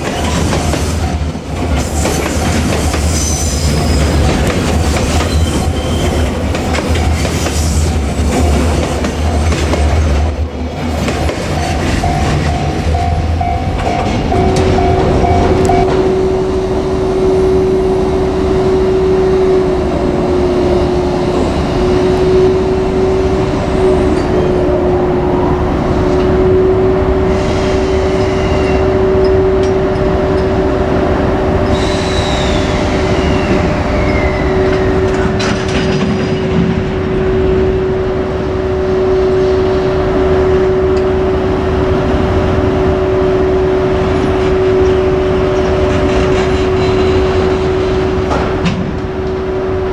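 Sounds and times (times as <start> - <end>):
freight train rumbling: 0.0 - 49.9.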